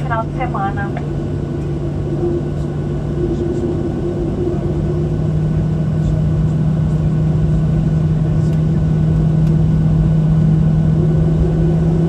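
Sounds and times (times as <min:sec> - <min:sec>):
continuous rumble: 0:00.0 - 0:12.0
jet engines idling hum: 0:00.0 - 0:12.0.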